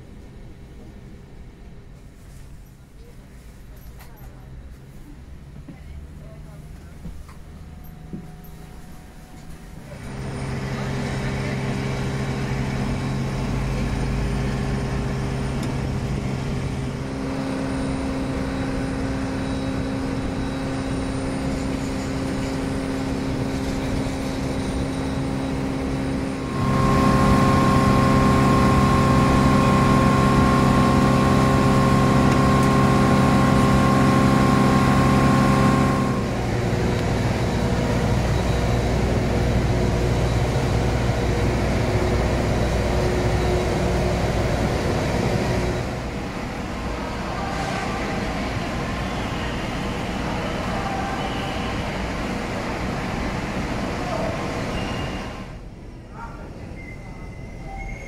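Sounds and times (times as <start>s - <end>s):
airliner mechanical drone: 5.5s - 56.5s.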